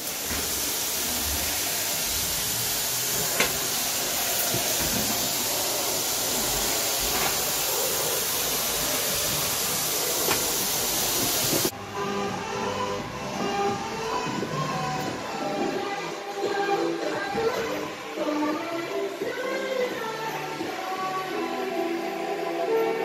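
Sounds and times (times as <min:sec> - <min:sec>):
loud steady hiss: 0:00.0 - 0:23.0.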